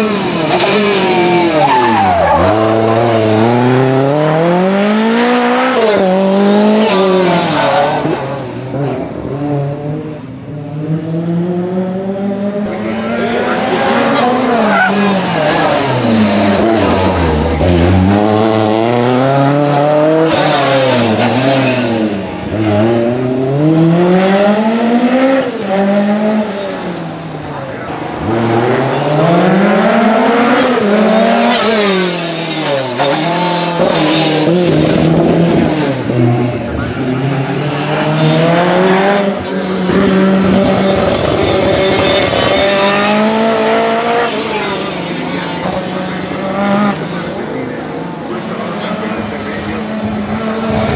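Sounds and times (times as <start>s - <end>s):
car engine accelerating hard: 0.0s - 50.9s.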